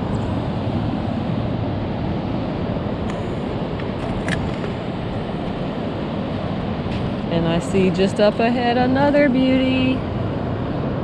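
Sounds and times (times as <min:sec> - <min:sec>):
distant surf: 0:00.0 - 0:11.0
wind rumble: 0:00.0 - 0:11.0.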